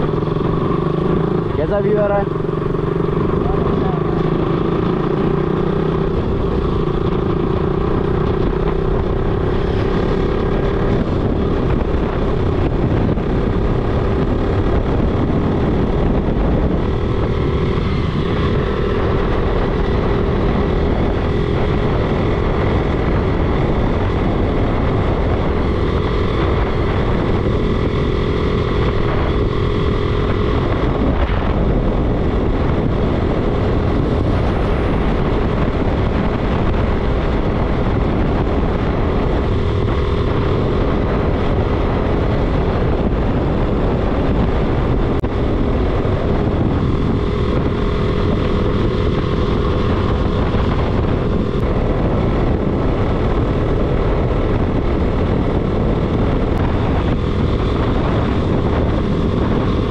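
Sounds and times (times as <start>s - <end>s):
low rumble and rushing noise: 0.0s - 59.9s
motorcycle engine running: 0.0s - 59.9s.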